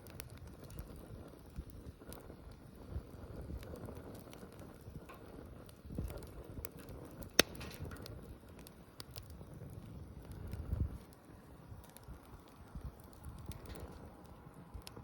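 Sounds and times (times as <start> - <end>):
bonfire crackling: 0.0 - 15.0
low rumble of flames: 0.0 - 15.0.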